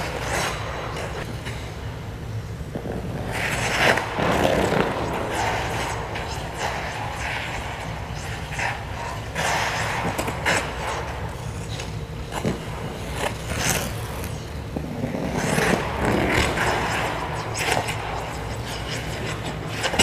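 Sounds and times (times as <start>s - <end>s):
skate blades scraping on ice: 0.0s - 1.8s, 2.6s - 20.0s.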